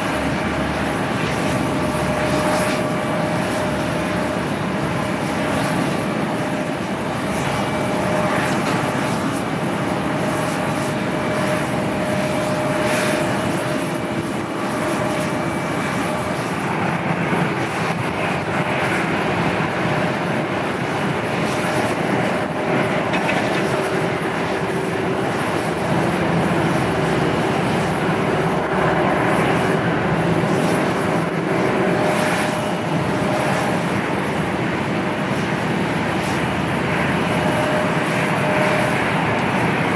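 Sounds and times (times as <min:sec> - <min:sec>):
jet airliner engines roaring: 0:00.0 - 0:39.9.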